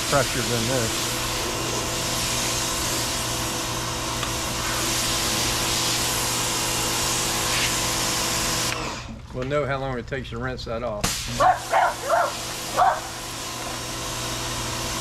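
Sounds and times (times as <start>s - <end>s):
pressure washer motor humming: 0.0s - 9.3s, 11.1s - 15.0s.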